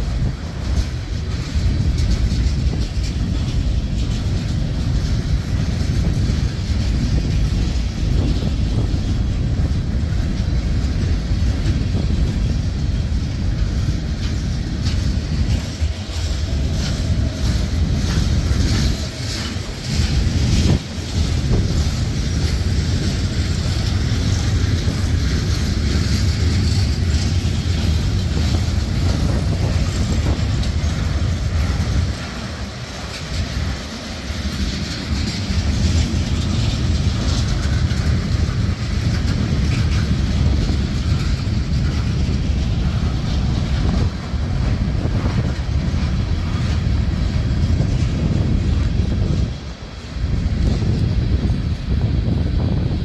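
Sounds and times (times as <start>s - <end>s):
freight train wheels clattering: 0.0s - 53.0s
locomotive passing: 0.0s - 53.0s.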